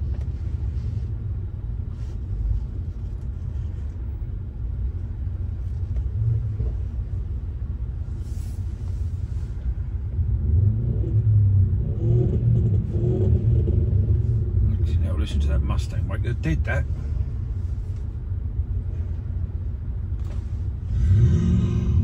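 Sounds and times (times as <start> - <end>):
car engine ahead: 0.0 - 22.0
car engine rumble: 0.0 - 22.0.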